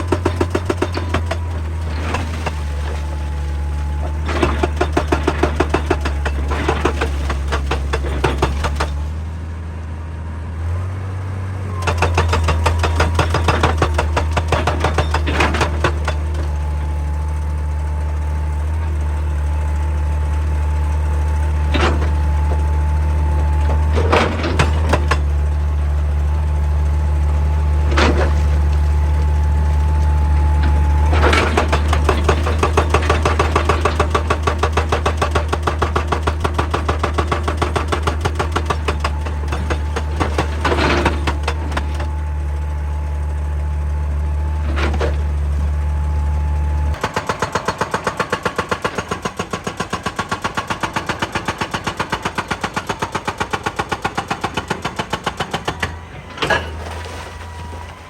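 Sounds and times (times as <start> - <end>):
hydraulic breaker pounding rock: 0.0 - 9.2, 11.8 - 42.7, 44.5 - 58.0
excavator engine drone: 0.0 - 58.0.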